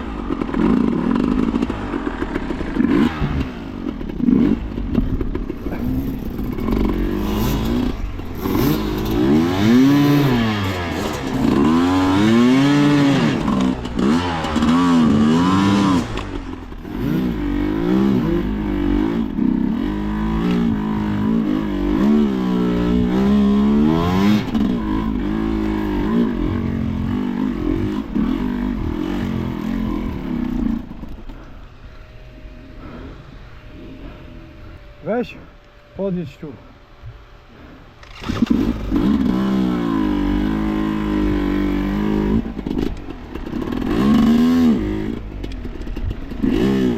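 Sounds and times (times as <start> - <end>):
motorcycle engine revving: 0.0 - 36.1, 37.5 - 46.9.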